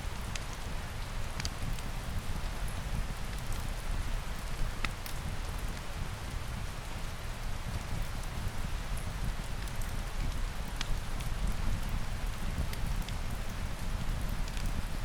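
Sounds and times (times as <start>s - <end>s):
rain hissing on a surface: 0.0s - 15.0s.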